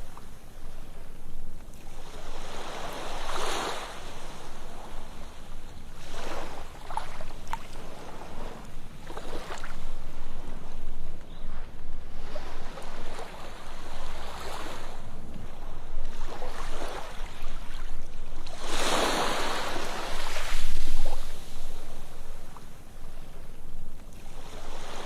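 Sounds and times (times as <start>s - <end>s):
ocean waves on sandy beach: 0.0s - 25.0s.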